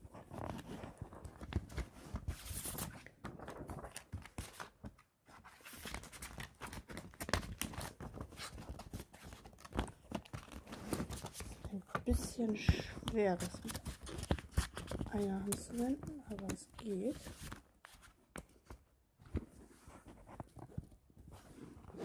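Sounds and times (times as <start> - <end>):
paper cover rustling and crinkling: 0.1 - 22.0.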